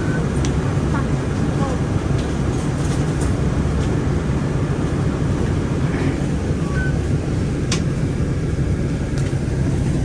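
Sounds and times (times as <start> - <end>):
bus rumbling in motion: 0.0 - 10.0.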